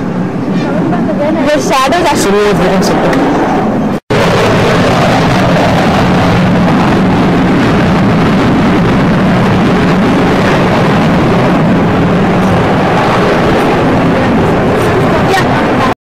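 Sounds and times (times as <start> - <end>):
fighter jet flying overhead: 0.0 - 16.0.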